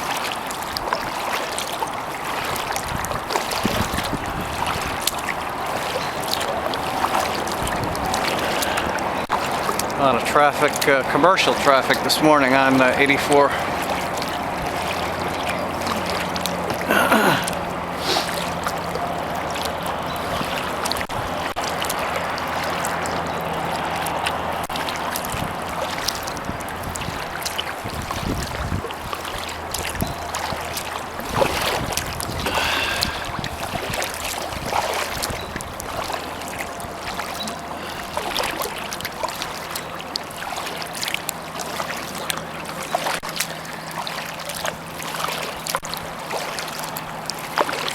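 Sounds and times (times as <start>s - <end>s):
paddle strokes splashing water: 0.0s - 47.9s
water trickling off paddle: 0.0s - 47.9s
highway traffic hum: 1.8s - 45.0s.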